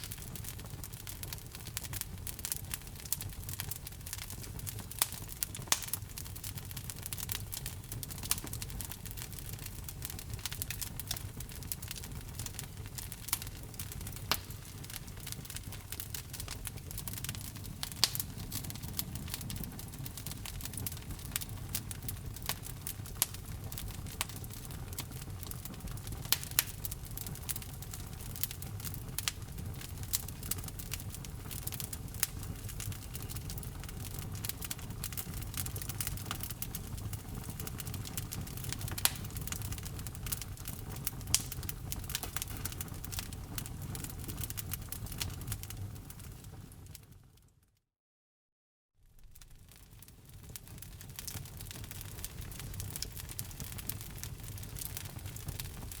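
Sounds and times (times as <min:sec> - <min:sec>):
fire snapping: 0:00.0 - 0:46.4, 0:49.1 - 0:56.0
wood fire crackling: 0:00.0 - 0:47.2, 0:49.1 - 0:56.0
low rumble of flames: 0:00.0 - 0:47.5, 0:49.1 - 0:56.0.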